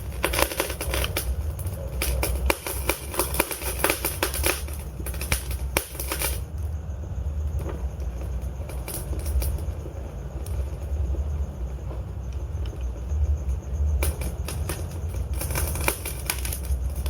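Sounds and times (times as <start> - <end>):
low rumble of fire: 0.0 - 17.0
wood fire crackling: 0.0 - 17.0.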